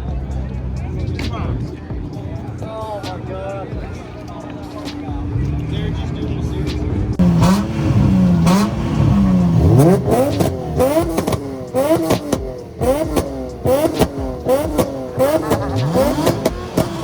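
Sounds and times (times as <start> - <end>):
car engine revving hard: 3.1 - 17.0.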